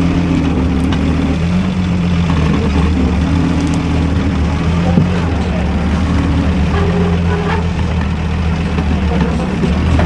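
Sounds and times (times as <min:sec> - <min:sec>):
truck engine revving under load: 0:00.0 - 0:10.0.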